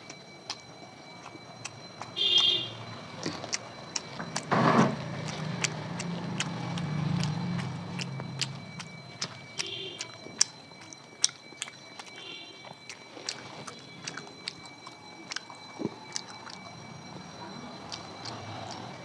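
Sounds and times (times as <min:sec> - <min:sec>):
chewing and mouth noises: 0:00.0 - 0:19.0.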